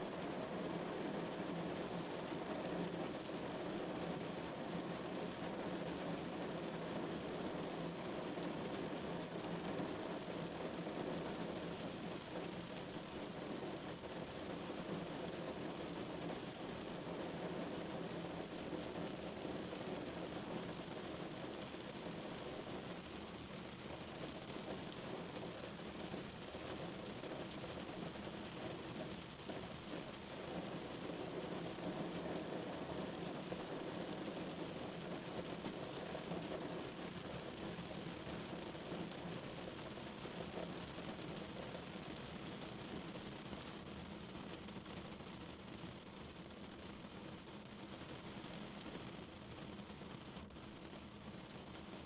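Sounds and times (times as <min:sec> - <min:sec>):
rain falling on a car: 0:00.0 - 0:52.0.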